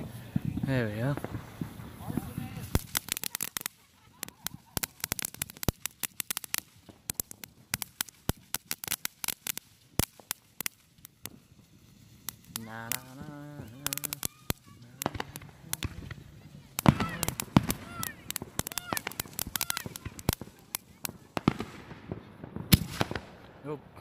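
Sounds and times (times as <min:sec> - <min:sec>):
firework crackling and popping: 0:00.0 - 0:24.0.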